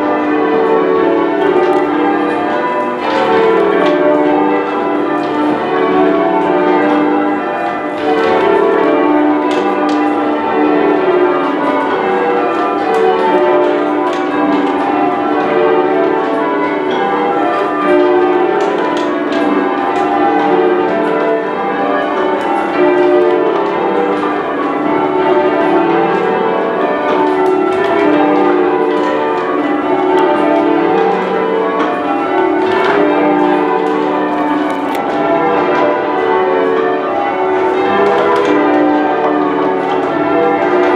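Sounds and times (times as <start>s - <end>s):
church bells change-ringing: 0.0s - 40.9s.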